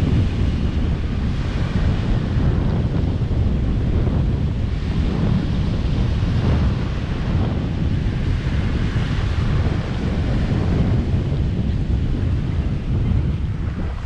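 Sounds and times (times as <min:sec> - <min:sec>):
ocean waves washing on shore: 0:00.0 - 0:14.0
wind buffeting microphone: 0:00.0 - 0:14.0.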